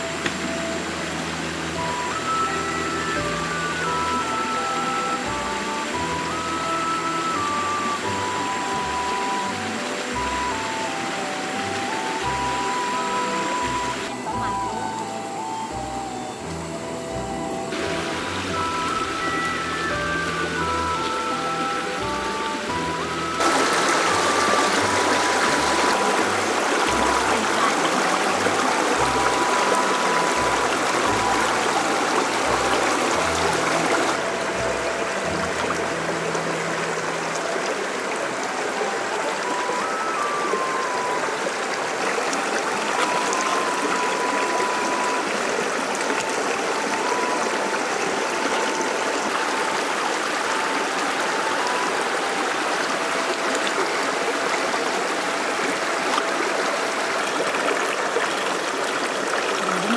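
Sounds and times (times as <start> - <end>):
soft slow melody: 0.0 - 59.9
stream of running water: 0.0 - 59.9.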